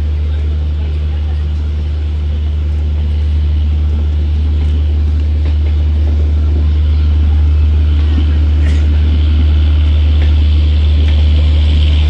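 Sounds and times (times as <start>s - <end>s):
train diesel engine droning: 0.0s - 12.0s.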